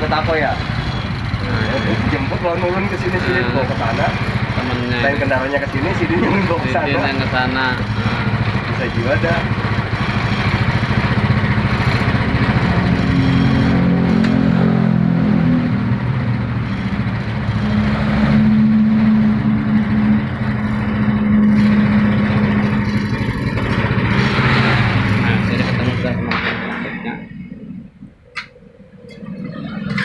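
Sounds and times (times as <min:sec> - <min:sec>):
small motorcycle engine revving: 0:00.0 - 0:26.9.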